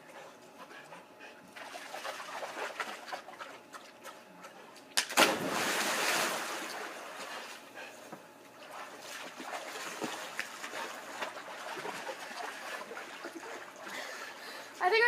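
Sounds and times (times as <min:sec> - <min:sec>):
water lapping and sloshing: 0:00.0 - 0:15.0.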